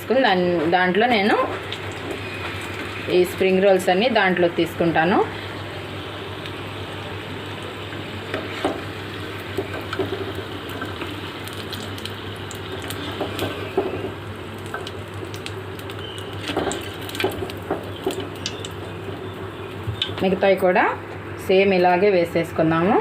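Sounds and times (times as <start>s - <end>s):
deep-frying sizzle in oil: 0.0s - 21.0s.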